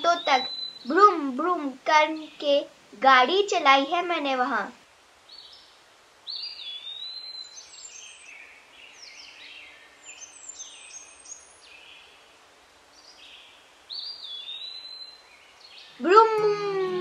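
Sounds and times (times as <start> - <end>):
birds chirping: 0.0 - 4.6, 5.3 - 12.3, 12.9 - 17.0.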